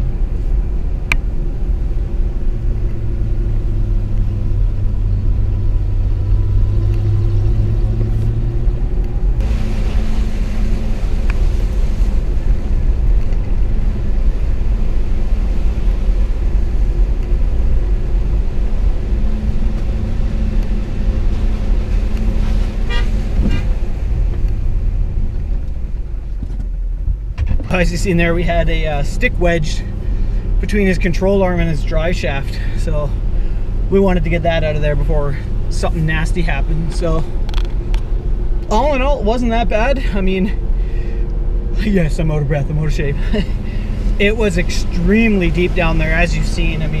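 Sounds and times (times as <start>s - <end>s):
truck engine rumble: 0.0s - 47.0s
tyre and road noise: 0.0s - 47.0s.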